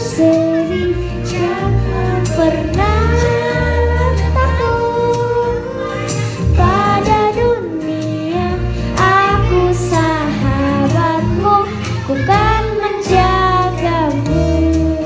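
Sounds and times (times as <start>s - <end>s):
girl singing into a microphone: 0.0s - 15.0s
instrumental accompaniment with bass: 0.0s - 15.0s.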